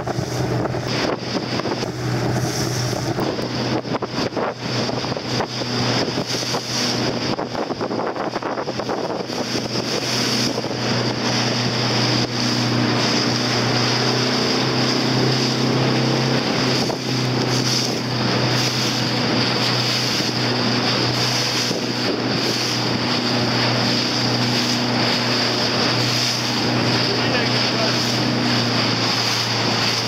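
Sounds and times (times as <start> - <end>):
motorboat engine humming: 0.0 - 30.0
water rushing against hull: 0.0 - 30.0
wind buffeting microphone: 0.0 - 30.0.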